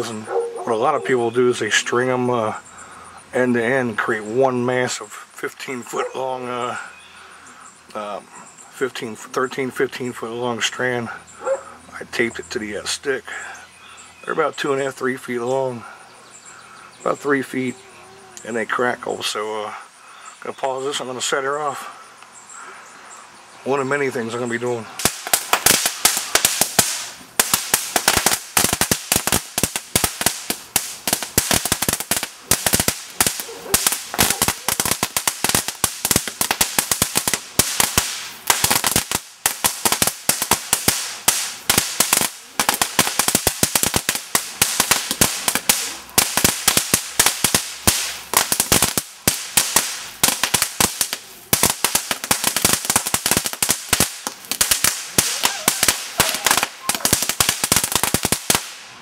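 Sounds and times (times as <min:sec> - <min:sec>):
firework strand crackling: 0:00.0 - 0:59.0.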